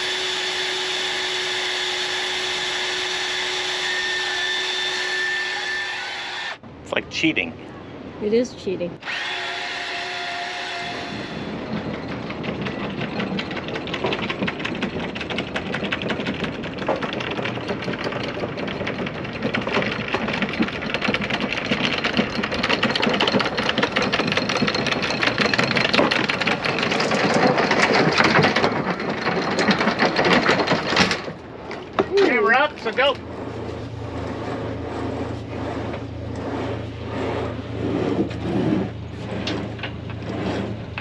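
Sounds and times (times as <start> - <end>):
windlass motor whine: 0.0 - 41.0.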